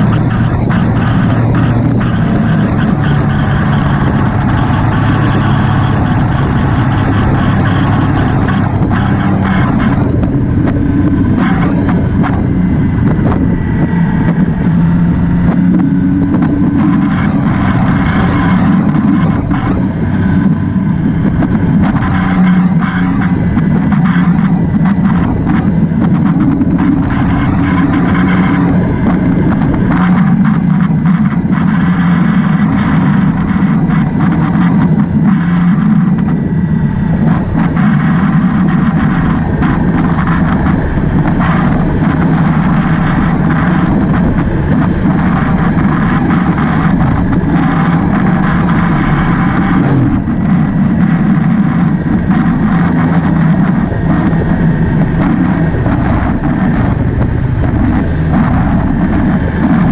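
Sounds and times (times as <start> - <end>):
motorcycle engine drone: 0.0 - 59.9
wind over microphone: 0.0 - 59.9.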